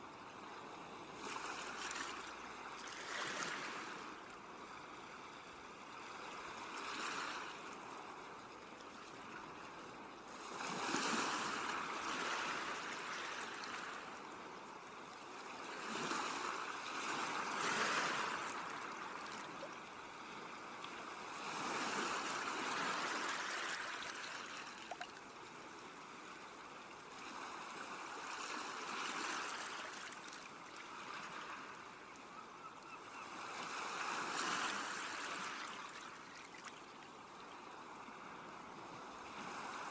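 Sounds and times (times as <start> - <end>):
sea waves breaking on shore: 0.1 - 32.2, 33.1 - 39.9.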